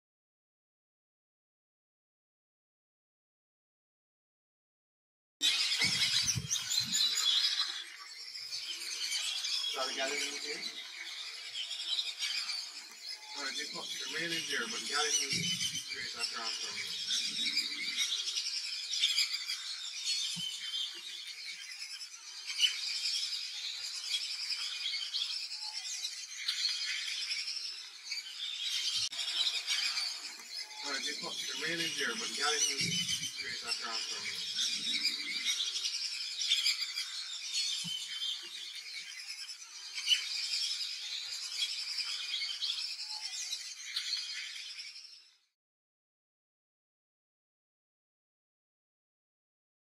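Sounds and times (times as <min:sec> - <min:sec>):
birds chirping and calling: 0:05.4 - 0:45.5.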